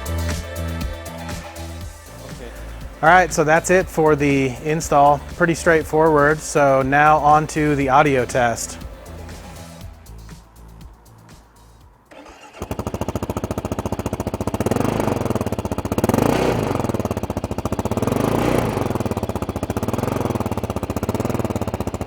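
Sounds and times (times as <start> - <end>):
motorcycle engine starting and idling: 0.0 - 22.0.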